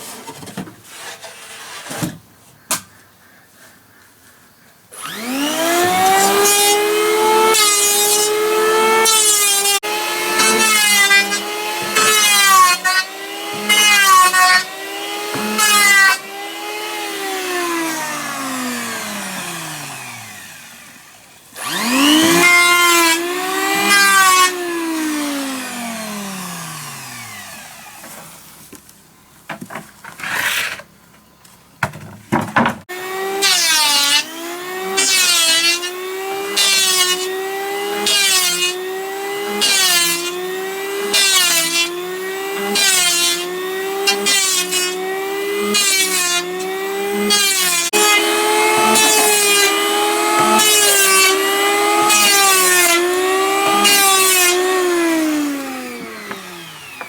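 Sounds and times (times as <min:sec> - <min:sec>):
electric planer motor whining: 0:04.9 - 0:28.3, 0:32.9 - 0:57.0.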